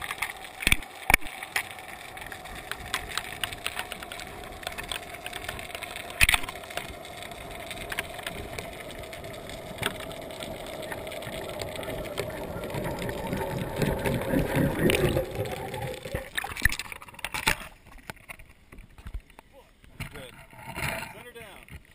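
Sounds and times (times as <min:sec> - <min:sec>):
underwater hum: 0:00.0 - 0:19.4.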